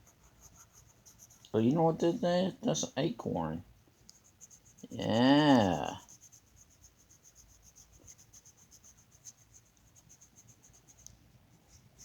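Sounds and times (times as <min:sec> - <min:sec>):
coloring tool strokes on paper: 0:00.0 - 0:01.9, 0:04.0 - 0:12.0.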